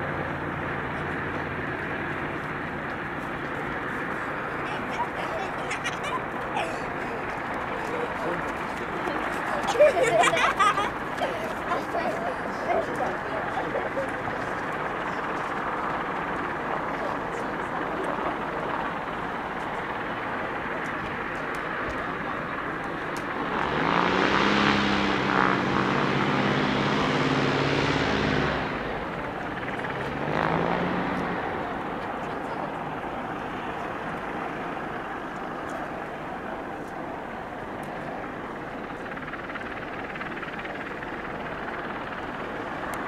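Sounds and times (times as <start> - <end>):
light aircraft engine running: 0.0 - 43.0.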